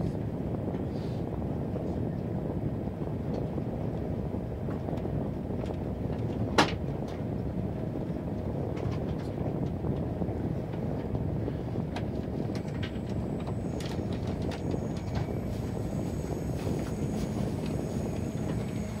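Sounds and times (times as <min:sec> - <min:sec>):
train cabin low noise: 0:00.0 - 0:19.0.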